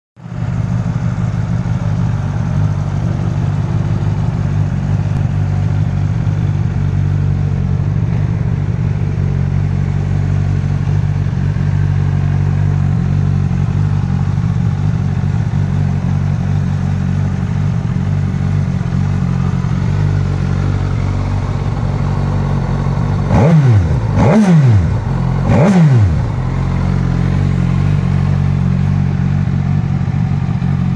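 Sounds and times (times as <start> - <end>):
motorcycle engine idling: 0.2 - 30.9.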